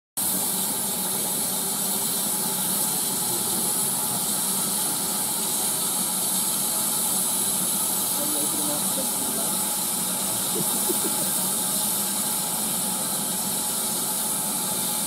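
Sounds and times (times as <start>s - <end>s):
steam hissing: 0.2s - 15.0s.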